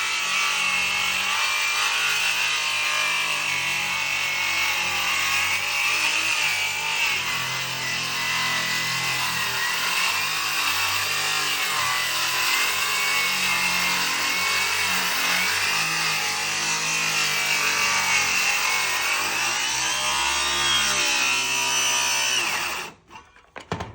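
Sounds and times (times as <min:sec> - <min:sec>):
power saw cutting wood: 0:00.0 - 0:23.4.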